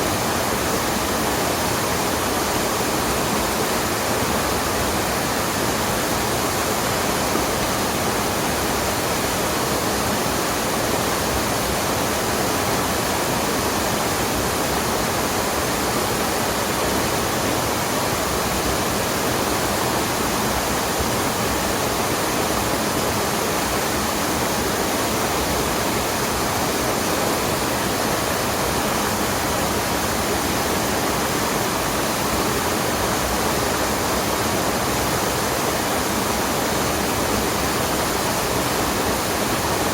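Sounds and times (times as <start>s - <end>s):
water rushing over waterfall: 0.0s - 39.9s.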